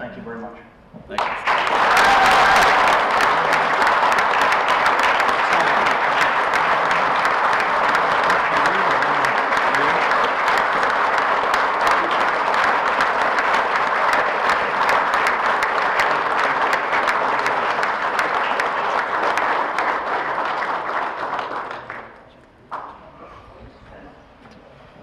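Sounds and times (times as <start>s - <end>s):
audience applauding: 1.1s - 23.0s.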